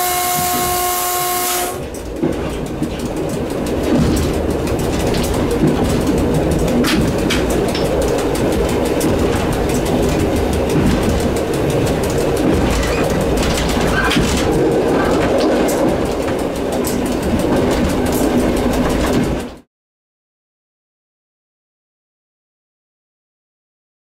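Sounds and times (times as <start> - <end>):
track clicks and knocks: 0.0 - 19.7
train wheels rumbling on rail: 0.0 - 19.7.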